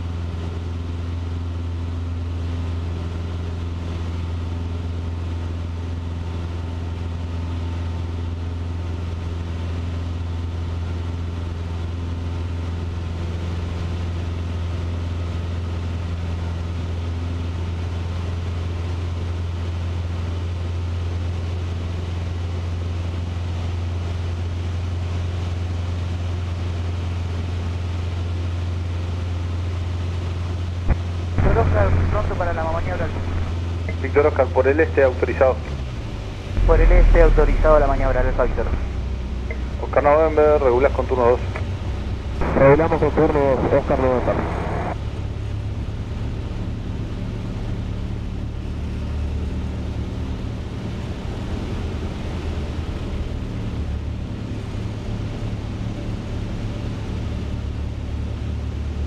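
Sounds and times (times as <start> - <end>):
airplane engine and propeller drone: 0.0 - 59.0.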